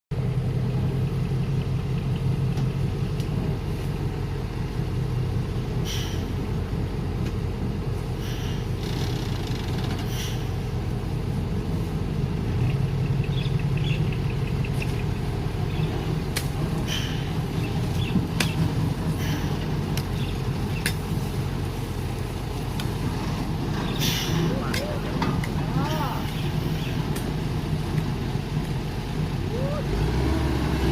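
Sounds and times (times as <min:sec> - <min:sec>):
excavator diesel engine running: 0:00.1 - 0:30.9.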